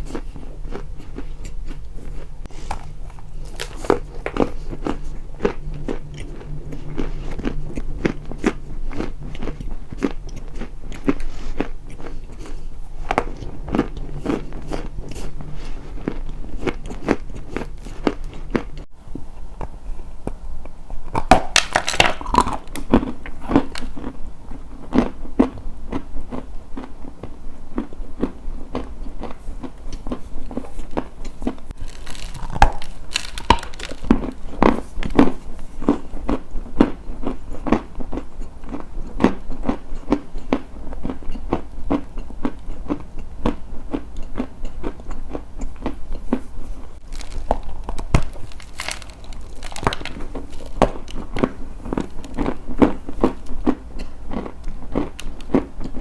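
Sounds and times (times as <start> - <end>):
crunchy chewing: 0.0 - 56.0
faint low hum: 0.0 - 56.0.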